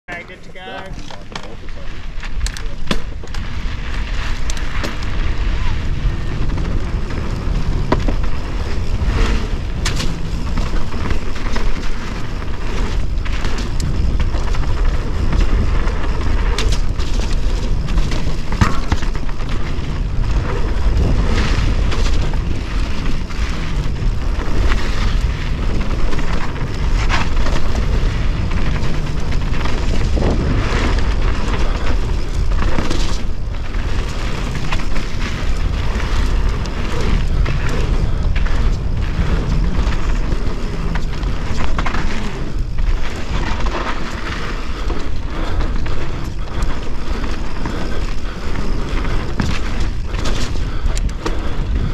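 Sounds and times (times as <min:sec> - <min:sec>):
tyres on dirt: 0:00.1 - 0:51.9
bike chain rattling: 0:00.5 - 0:51.9
wind buffeting microphone: 0:01.5 - 0:51.9.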